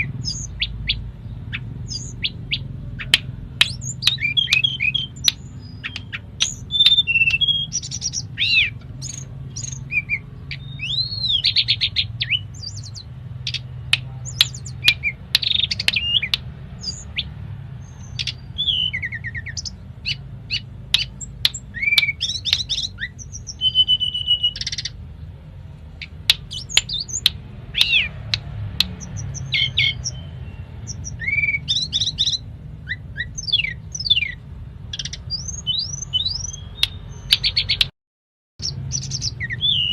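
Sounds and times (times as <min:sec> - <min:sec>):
bird singing: 0:00.0 - 0:37.9, 0:38.6 - 0:39.9.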